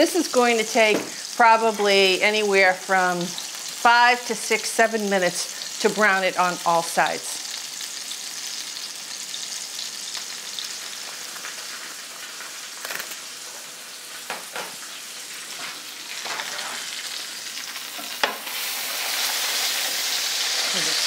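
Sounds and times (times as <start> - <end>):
meat sizzling in a skillet: 0.0 - 21.0.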